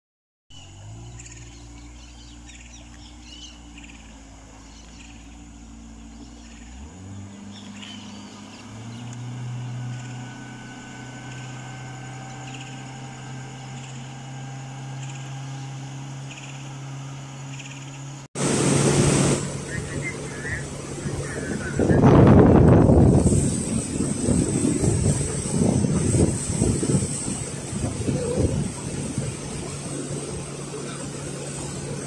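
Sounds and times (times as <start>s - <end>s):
birds chirping: 0.5s - 18.3s, 19.6s - 23.0s, 23.7s - 32.0s.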